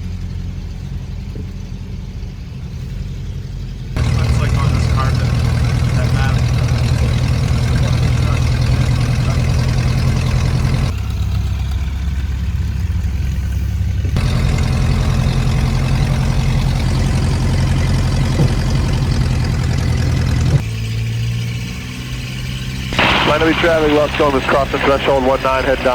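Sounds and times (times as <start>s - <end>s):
propeller engine idling: 0.0s - 25.9s.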